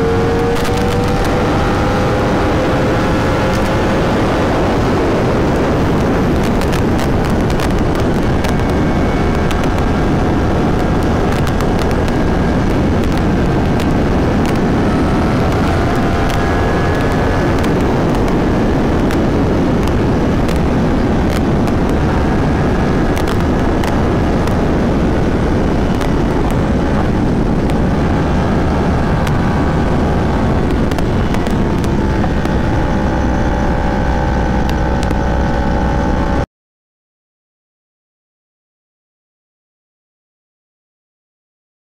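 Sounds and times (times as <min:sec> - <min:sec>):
motorcycle engine at high speed: 0:00.0 - 0:36.5
wind rush on microphone: 0:00.0 - 0:36.5.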